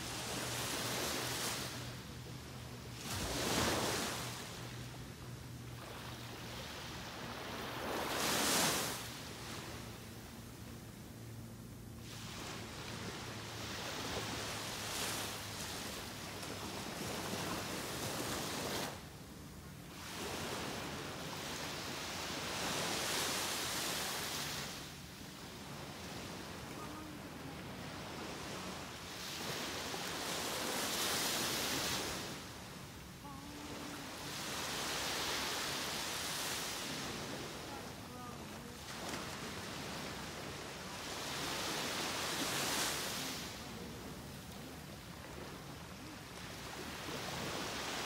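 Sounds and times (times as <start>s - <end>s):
waves washing on beach: 0.0s - 48.0s.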